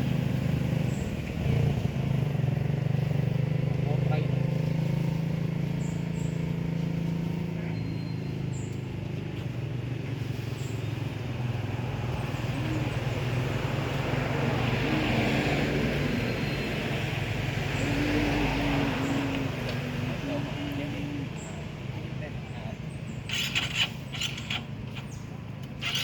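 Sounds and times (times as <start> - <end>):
road noise: 0.0 - 26.0
vehicle engine running: 0.0 - 26.0.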